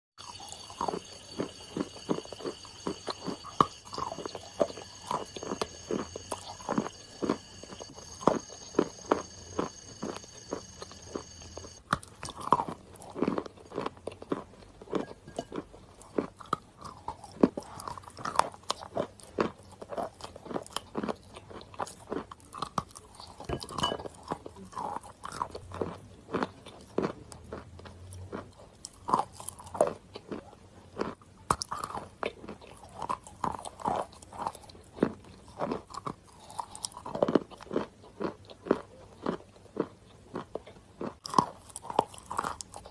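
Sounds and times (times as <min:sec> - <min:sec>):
chalk crunching while chewed: 0:00.2 - 0:42.9.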